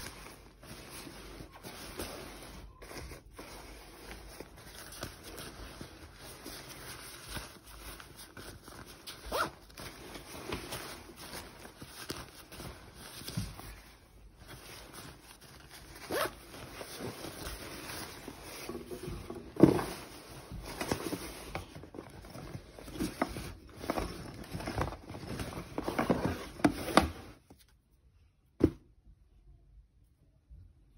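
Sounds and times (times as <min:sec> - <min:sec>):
nylon jacket rustling: 0:00.0 - 0:27.4.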